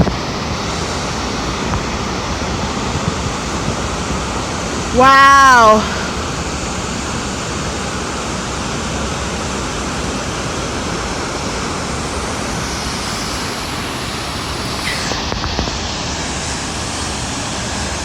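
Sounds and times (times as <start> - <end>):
waterfall rushing: 0.1 - 18.0.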